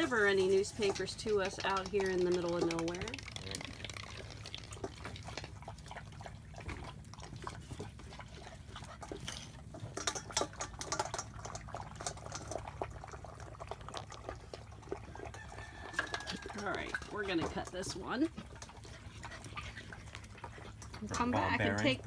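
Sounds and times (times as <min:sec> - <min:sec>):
puppies lapping water: 0:00.0 - 0:22.0.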